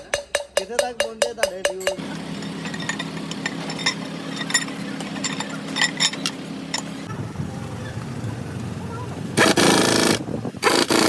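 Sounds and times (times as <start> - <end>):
engine humming: 1.8 - 11.0.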